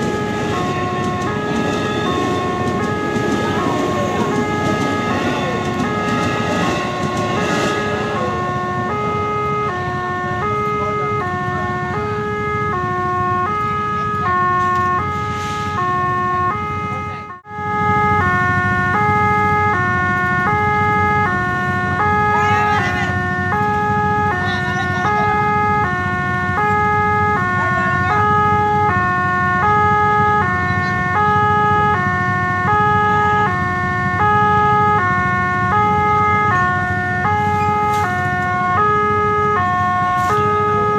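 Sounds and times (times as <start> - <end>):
two-tone crossing alarm: 0.0 - 40.9.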